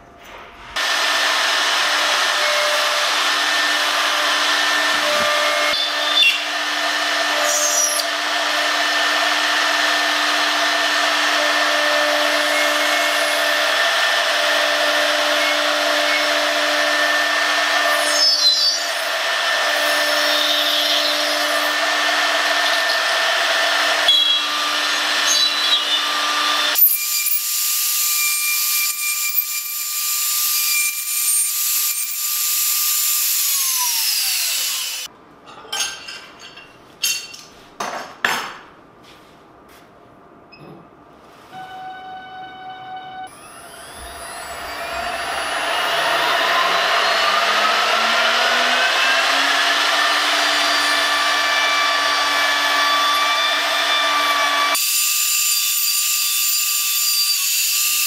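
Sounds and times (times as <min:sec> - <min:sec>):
router spindle whining: 0:00.8 - 0:35.1, 0:43.3 - 0:55.6.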